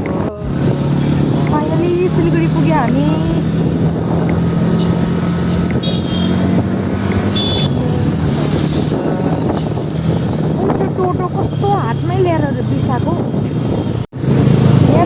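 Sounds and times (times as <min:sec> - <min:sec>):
vehicle engine hum: 0:00.0 - 0:12.7
road noise: 0:00.0 - 0:15.0.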